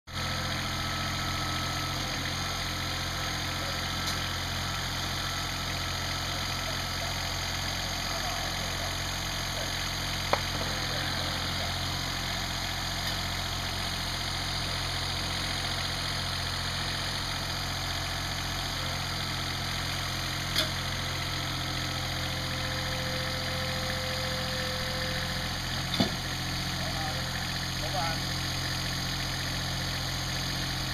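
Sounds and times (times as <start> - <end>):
tractor engine idling: 0.1 - 30.9.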